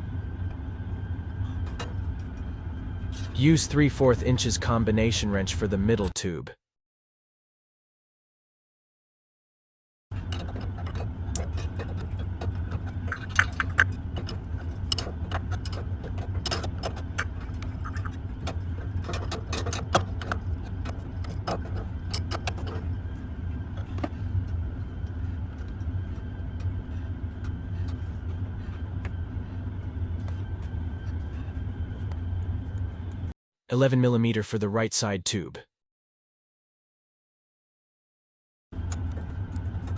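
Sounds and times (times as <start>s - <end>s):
steady low hum: 0.0s - 6.5s, 10.1s - 35.5s, 38.8s - 39.9s.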